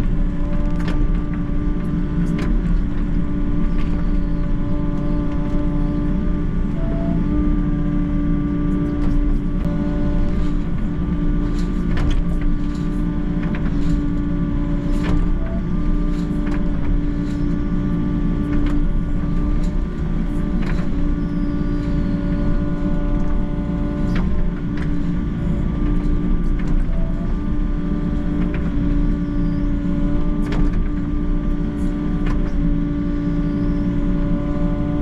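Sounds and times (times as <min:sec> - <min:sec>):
excavator engine hum: 0:00.0 - 0:35.0.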